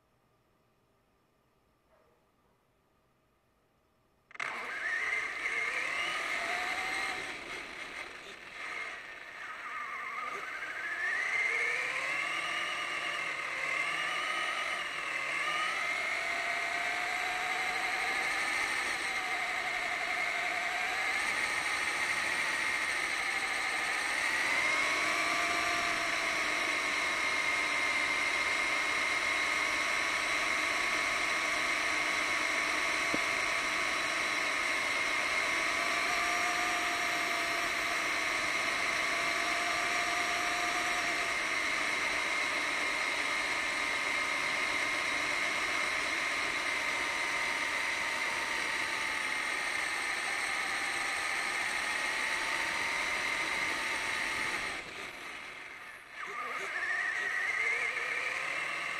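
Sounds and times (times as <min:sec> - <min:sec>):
toy truck motor whine: 0:04.3 - 0:58.9.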